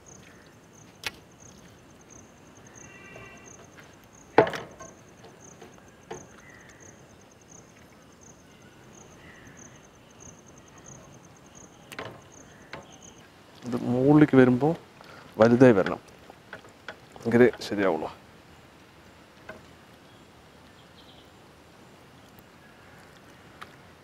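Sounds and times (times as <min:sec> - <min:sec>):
insect chirping: 0:00.0 - 0:23.6.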